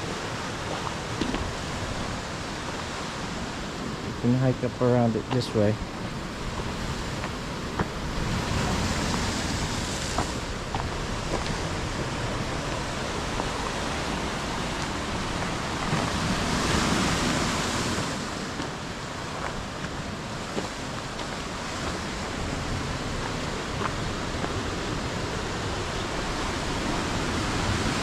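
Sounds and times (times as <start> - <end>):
ocean surf washing: 0.0 - 28.0
wind: 0.0 - 28.0.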